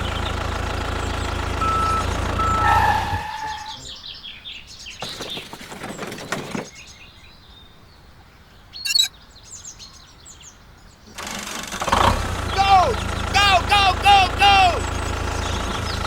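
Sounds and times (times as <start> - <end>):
small birds chirping: 0.0 - 2.6, 3.4 - 11.1, 12.4 - 16.0.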